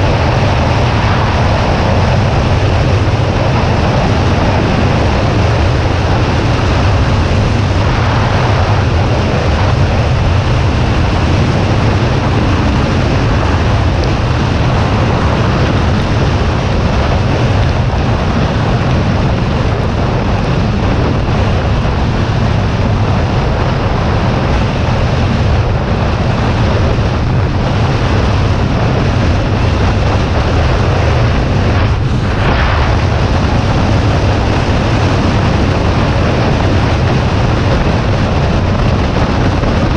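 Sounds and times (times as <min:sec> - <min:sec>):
motorcycle engine drone: 0:00.0 - 0:39.9
wind rush over microphone: 0:00.0 - 0:39.9.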